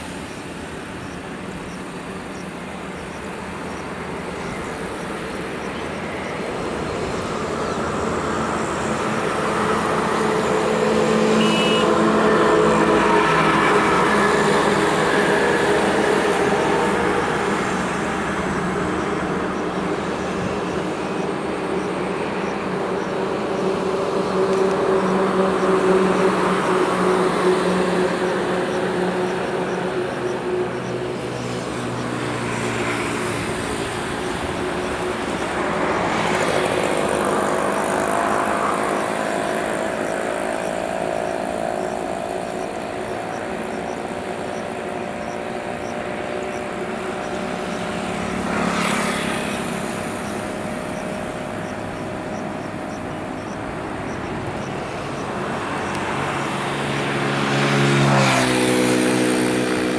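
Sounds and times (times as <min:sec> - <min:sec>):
distant jet engines whining: 0:00.0 - 0:59.9.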